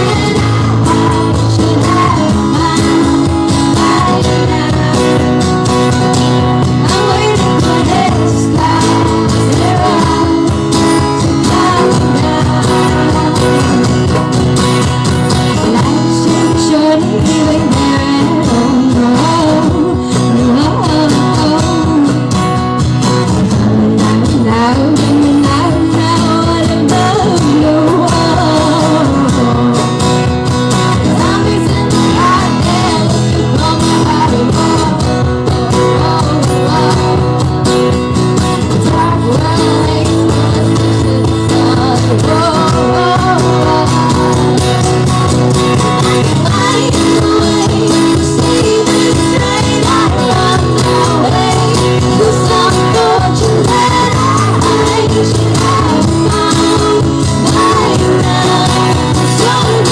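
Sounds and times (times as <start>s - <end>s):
band playing rock music: 0.0s - 59.9s
sliding lead guitar line: 0.0s - 59.9s.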